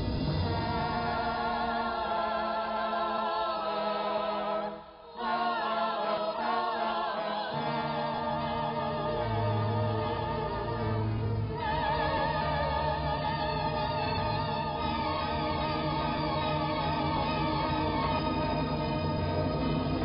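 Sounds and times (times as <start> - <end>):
choir singing held notes: 0.0 - 20.0.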